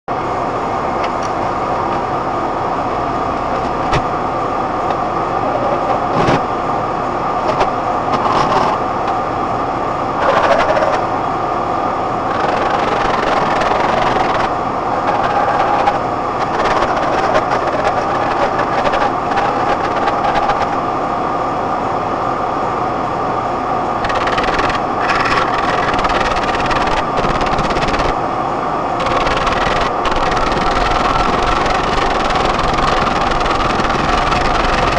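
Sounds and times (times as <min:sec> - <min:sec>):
vehicle running noise: 0:00.1 - 0:34.9.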